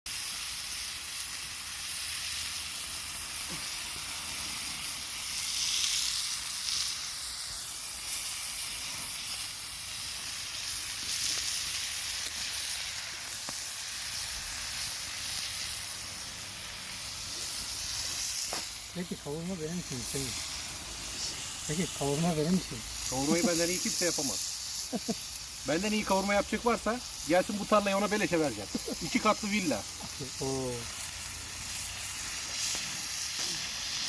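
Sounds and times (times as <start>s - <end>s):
meat sizzling in iron pan: 0.1s - 34.0s.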